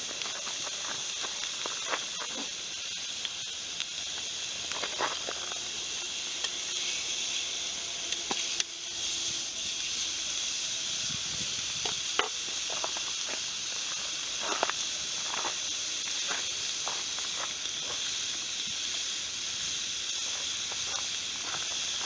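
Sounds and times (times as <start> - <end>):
campfire hiss and crackles: 0.0 - 22.0.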